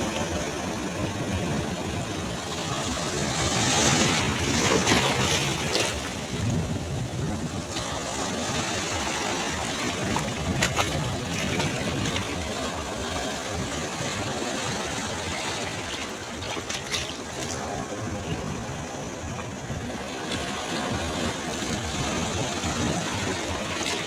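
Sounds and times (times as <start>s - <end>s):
waves breaking on beach: 0.0s - 24.0s.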